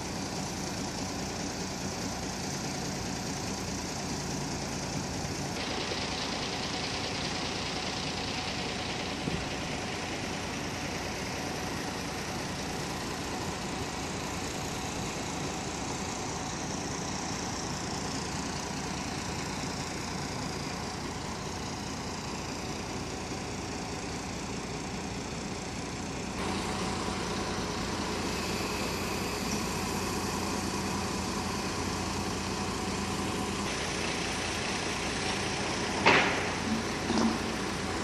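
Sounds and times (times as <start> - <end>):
forklift diesel engine running: 0.0 - 38.0.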